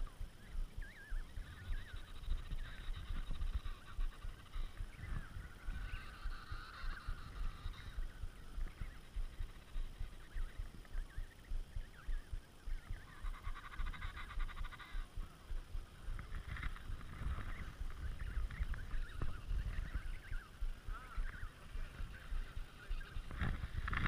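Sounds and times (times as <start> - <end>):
wind rumble on microphone: 0.0 - 24.0
penguins calling: 0.8 - 10.6, 12.8 - 24.0.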